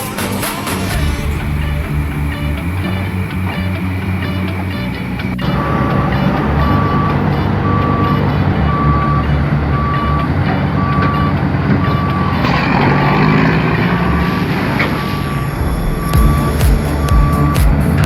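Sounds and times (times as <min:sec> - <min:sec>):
heavy engine running: 0:00.0 - 0:18.0
road noise: 0:00.0 - 0:18.0
reversing alarm beeps: 0:01.0 - 0:18.0.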